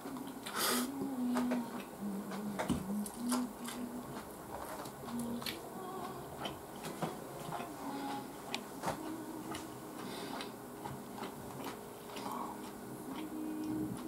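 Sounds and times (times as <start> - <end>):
person chewing with mouth clicks: 0.1 - 14.0.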